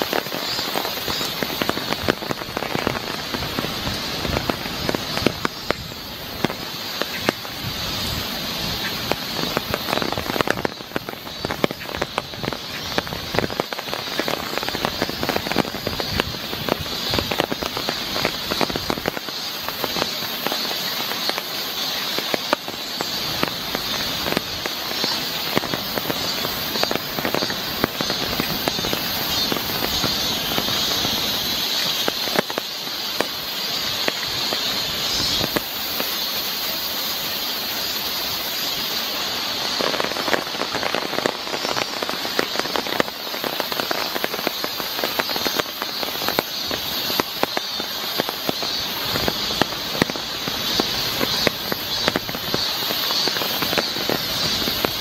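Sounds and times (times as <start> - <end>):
heavy rain on wood and foliage: 0.0 - 55.0.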